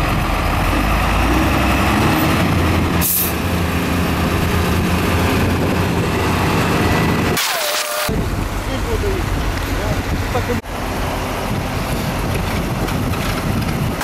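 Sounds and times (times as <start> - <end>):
heavy diesel engines under load: 0.0 - 14.0.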